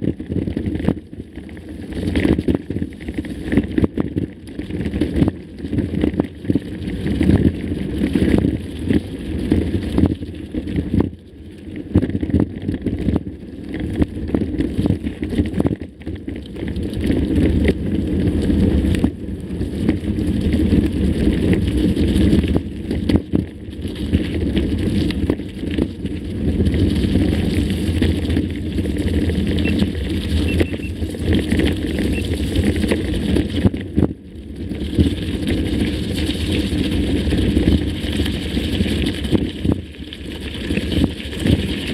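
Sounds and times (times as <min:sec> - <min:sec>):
bike rumbling over rough trail: 0:00.0 - 0:41.9.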